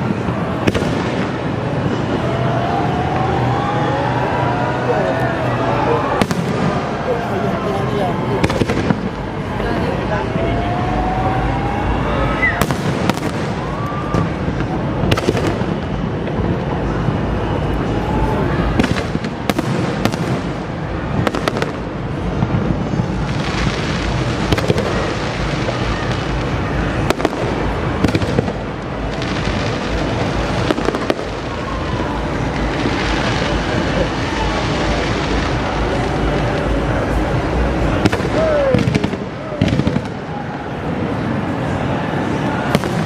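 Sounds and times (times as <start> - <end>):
fireworks bangs: 0.0 - 43.0
fireworks display rumble: 0.0 - 43.0.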